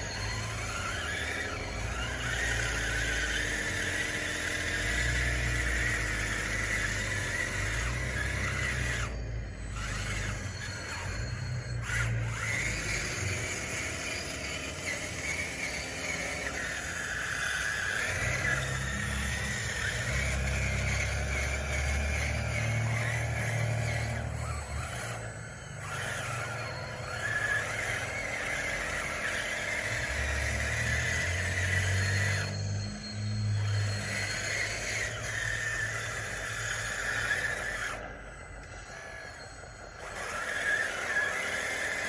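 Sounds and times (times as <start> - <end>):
toy bulldozer motor whine: 0.0 - 42.0.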